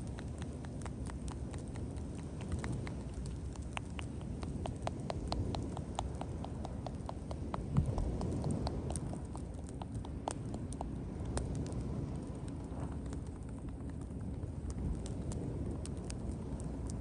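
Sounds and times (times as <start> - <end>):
bonfire pops and snaps: 0.0 - 17.0
low rumble of burning fire: 0.0 - 17.0.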